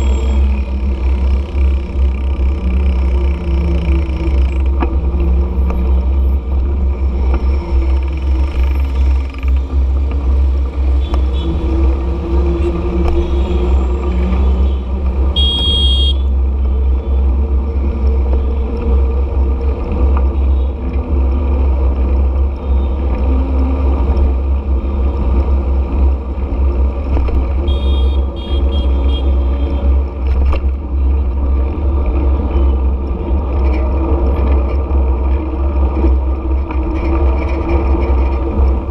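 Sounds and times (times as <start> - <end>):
passing motorbikes and cars: 0.0 - 38.9
traffic rumble: 0.0 - 38.9.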